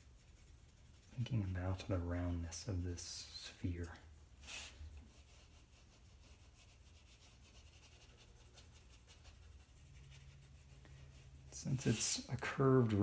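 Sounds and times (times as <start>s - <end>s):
blending stump rubbing on paper: 0.0s - 13.0s.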